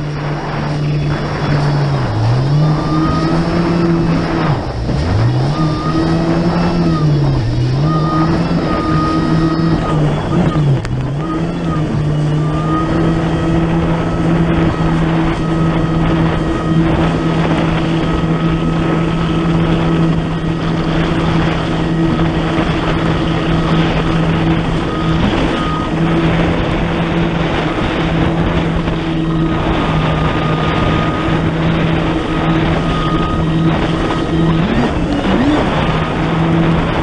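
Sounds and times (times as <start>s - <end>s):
jet ski engine drone: 0.0s - 37.0s
water rushing off hull: 0.0s - 37.0s
wind on microphone: 0.0s - 37.0s.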